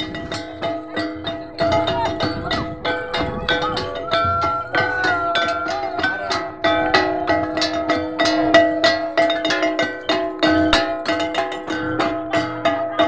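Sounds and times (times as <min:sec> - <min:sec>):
drum beating: 0:00.0 - 0:13.0
hand gongs ringing: 0:00.0 - 0:13.0.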